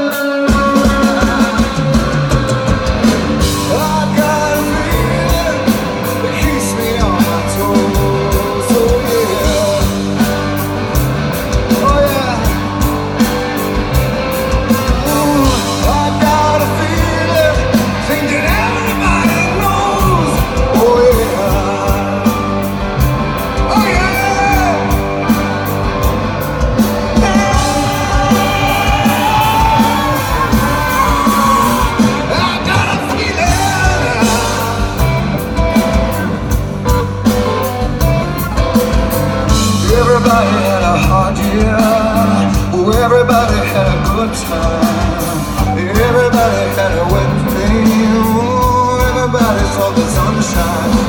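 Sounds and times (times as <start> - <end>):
male lead vocal: 0.0 - 36.8, 39.3 - 51.0
bass guitar: 0.0 - 51.0
electric guitar: 0.0 - 51.0
steady drum beat: 0.0 - 51.0.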